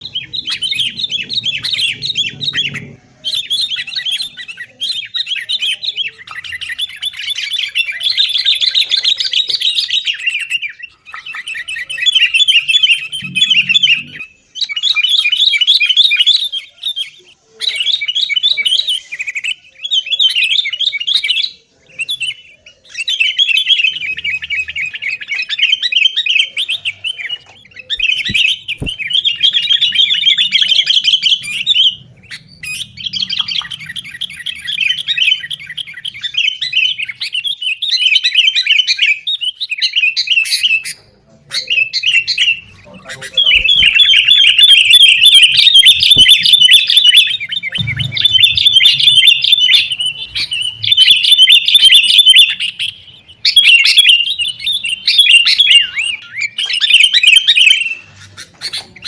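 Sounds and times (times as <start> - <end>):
birds chattering calls: 0.0 - 59.0.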